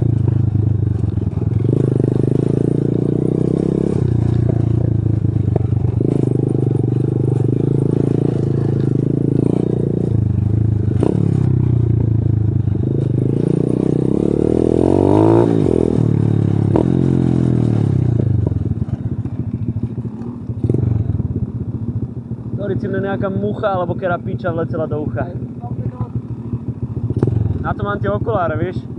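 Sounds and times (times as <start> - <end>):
dirt bike engine revving: 0.0 - 21.8, 22.5 - 28.6.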